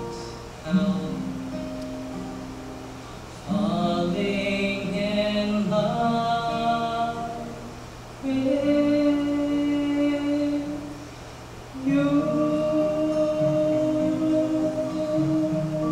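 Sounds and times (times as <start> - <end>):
man singing long notes: 0.0 - 1.8, 3.4 - 11.0, 11.7 - 15.9
acoustic guitar: 0.0 - 15.9.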